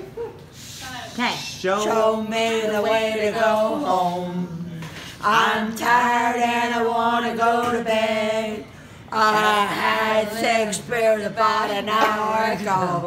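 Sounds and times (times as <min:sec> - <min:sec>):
elderly woman singing unaccompanied: 0:01.6 - 0:04.6, 0:05.2 - 0:13.0.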